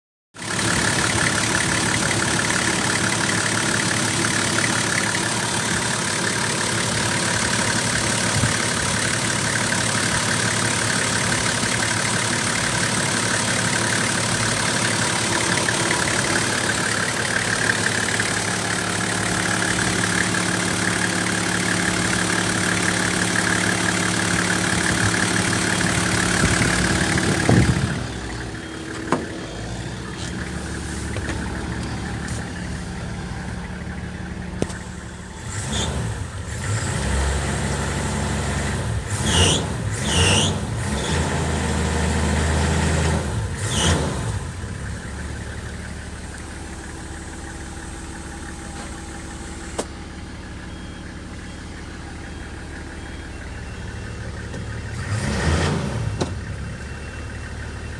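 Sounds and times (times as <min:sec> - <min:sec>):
diesel engine idling: 0:00.4 - 0:57.9.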